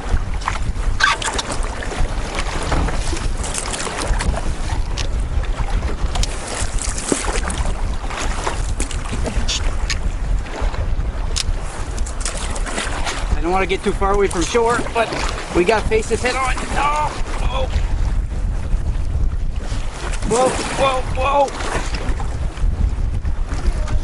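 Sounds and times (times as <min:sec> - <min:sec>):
waves splashing against canoe: 0:00.0 - 0:24.0
wind buffeting microphone: 0:00.0 - 0:24.0.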